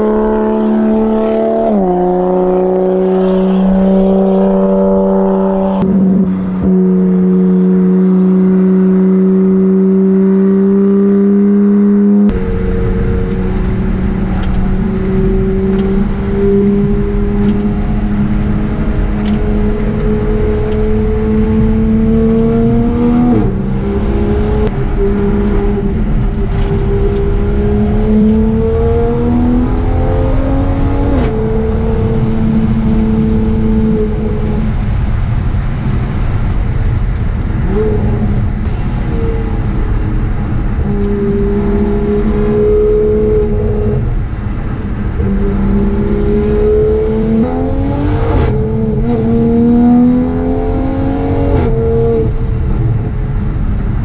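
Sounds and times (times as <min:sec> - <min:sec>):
race car engine under hard driving: 0:00.0 - 0:54.0.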